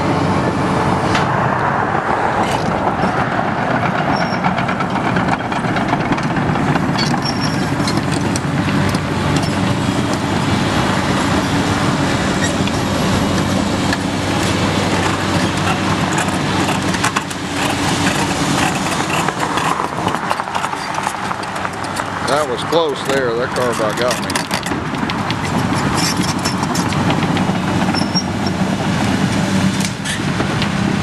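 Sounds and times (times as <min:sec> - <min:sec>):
diesel engine running: 0:00.0 - 0:31.0
steel tracks clanking: 0:00.0 - 0:31.0.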